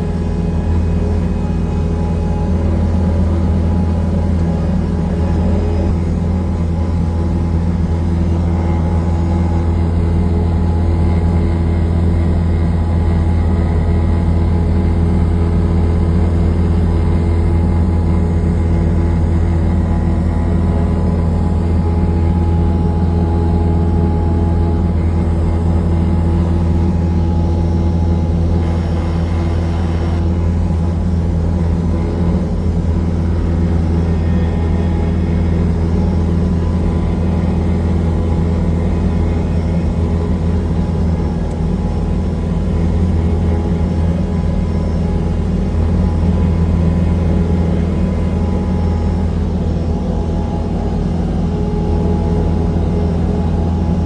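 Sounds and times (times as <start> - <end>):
low mechanical drone: 0.0 - 54.0.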